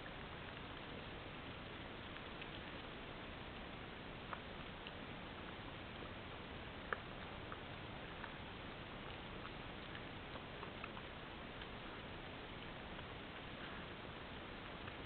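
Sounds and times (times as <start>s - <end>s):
faint ticks: 0.0s - 15.0s
microphone hiss: 0.0s - 15.0s.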